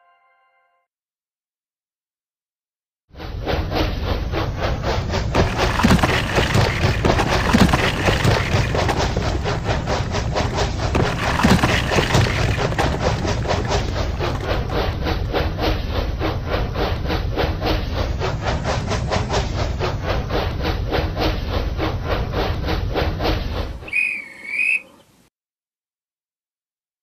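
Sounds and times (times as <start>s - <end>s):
toy steam train chuffing: 3.2s - 25.1s.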